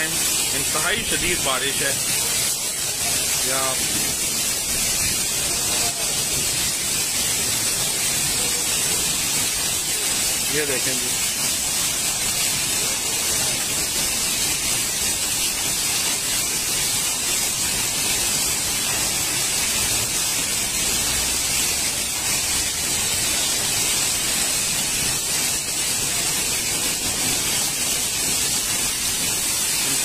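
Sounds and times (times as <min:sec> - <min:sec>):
torrential rain and hail: 0:00.0 - 0:30.0.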